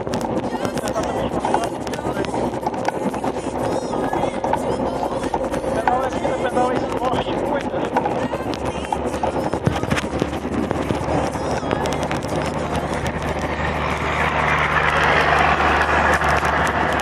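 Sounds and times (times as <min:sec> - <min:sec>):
motor vehicle engine running: 0:00.0 - 0:17.0
wind and tyre noise: 0:00.0 - 0:17.0.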